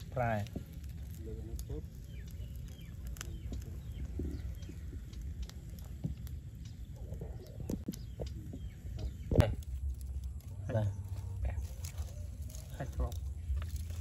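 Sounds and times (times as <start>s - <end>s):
charcoal embers crackling: 0.0s - 14.0s
wind rumbling on microphone: 0.0s - 14.0s
faint bird chirps: 1.2s - 13.4s.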